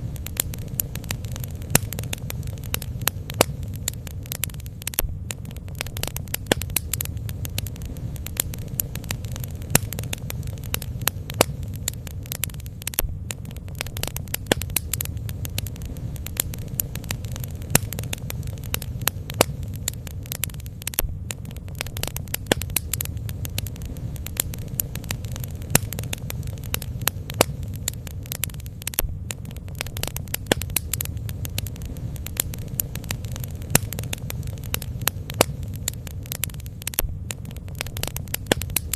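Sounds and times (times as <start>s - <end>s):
bonfire pops and crackles: 0.0s - 38.9s
steady low rumble: 0.0s - 38.9s.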